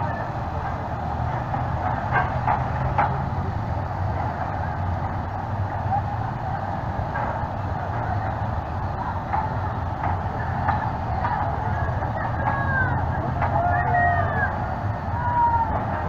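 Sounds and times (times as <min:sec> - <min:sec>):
motorcycle engines rumbling: 0:00.0 - 0:16.0.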